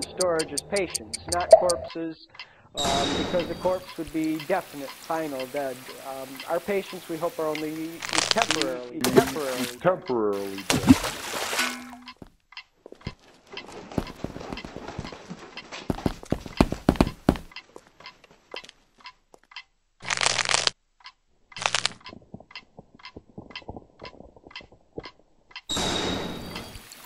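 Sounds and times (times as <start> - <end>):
dense crackling and clicking: 0.0 - 10.7, 12.4 - 27.0
regular ticking: 0.0 - 11.1, 12.0 - 27.0.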